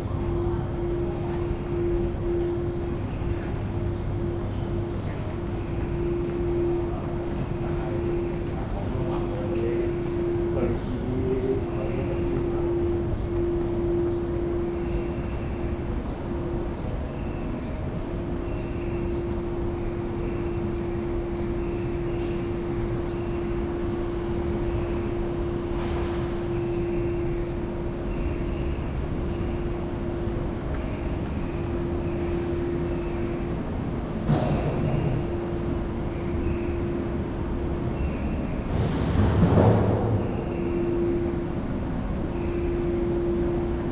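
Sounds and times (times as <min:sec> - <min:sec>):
steady machine hum: 0:00.0 - 0:43.9.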